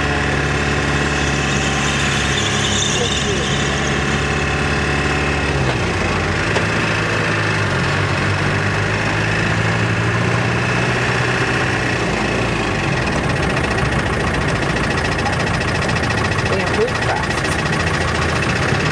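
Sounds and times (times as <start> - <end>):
vehicle engine humming: 0.0 - 18.9.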